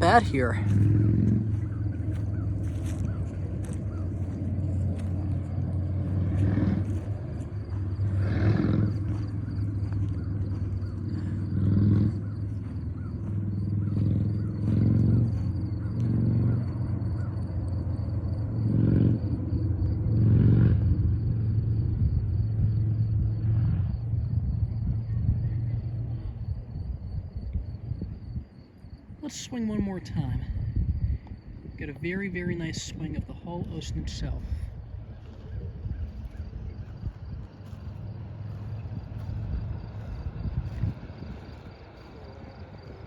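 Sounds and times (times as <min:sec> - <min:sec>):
wind rumbling on microphone: 0:00.0 - 0:43.0.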